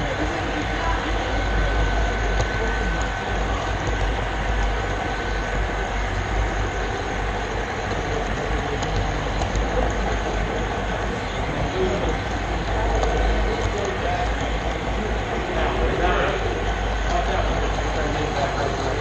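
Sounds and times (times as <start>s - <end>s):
model train wheels rumbling on rail: 0.0s - 19.0s.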